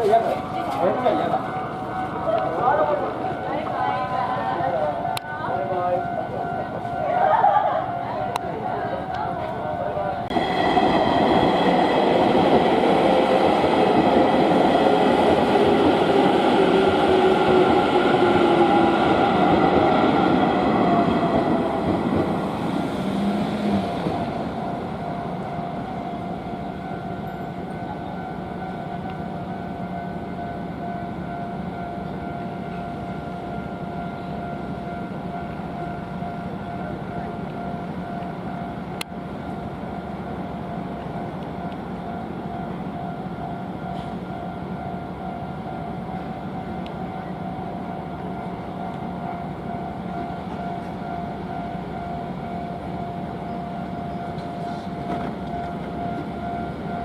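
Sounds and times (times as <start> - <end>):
crossing warning bell ringing: 0.0 - 57.0
electric train passing: 0.0 - 57.0.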